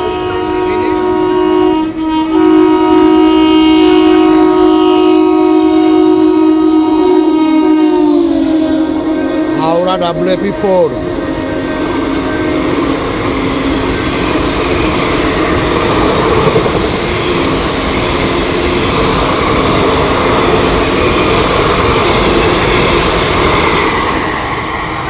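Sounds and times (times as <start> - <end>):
passenger train passing at speed: 0.0 - 25.0.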